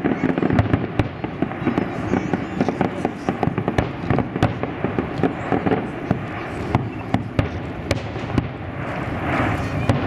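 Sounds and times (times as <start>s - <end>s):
crackling fireworks pops: 0.0s - 10.0s
fireworks shells bursting: 0.0s - 10.0s.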